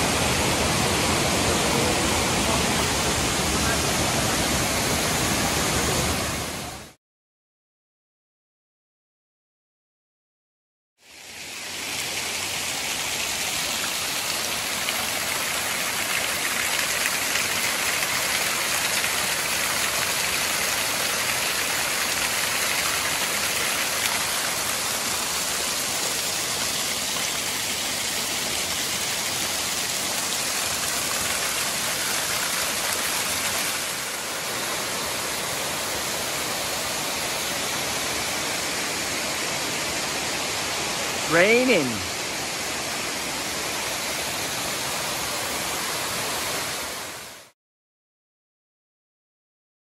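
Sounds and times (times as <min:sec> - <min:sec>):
waterfall rushing into pool: 0:00.0 - 0:07.0, 0:11.0 - 0:47.6.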